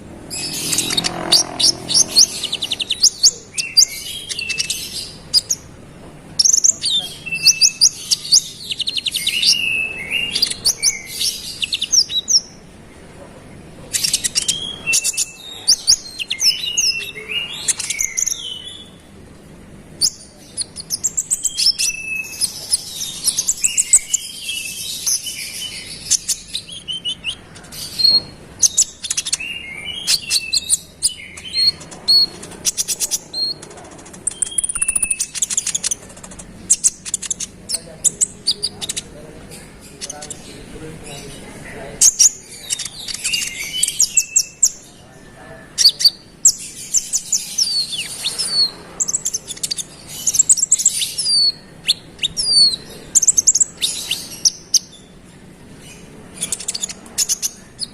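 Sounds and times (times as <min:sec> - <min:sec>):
bird chirping and trilling: 0:00.0 - 0:05.8, 0:06.4 - 0:12.8, 0:13.9 - 0:57.9.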